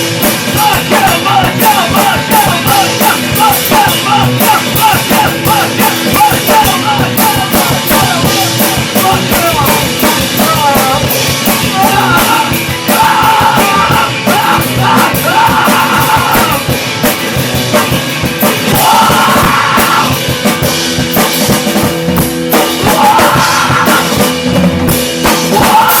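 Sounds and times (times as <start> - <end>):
drum kit fast beat: 0.0 - 26.0
rock band playing: 0.0 - 26.0.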